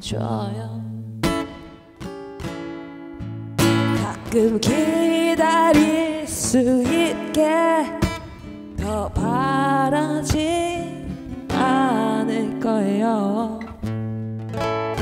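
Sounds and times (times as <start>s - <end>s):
woman singing blues: 0.0s - 1.9s, 3.2s - 14.6s
acoustic guitar: 0.0s - 15.0s.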